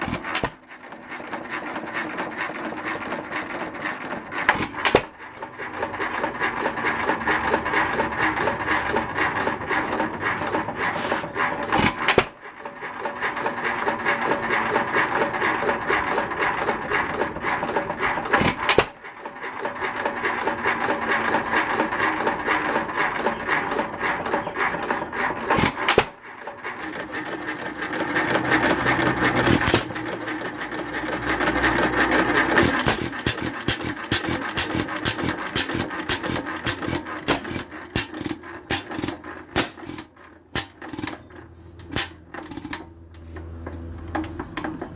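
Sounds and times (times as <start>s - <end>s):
engine mechanical clatter: 0.0s - 44.9s.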